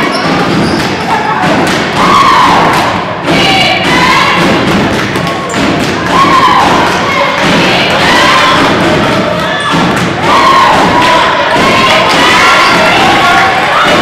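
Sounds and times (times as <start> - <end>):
group chanting a cheer: 0.0 - 14.0.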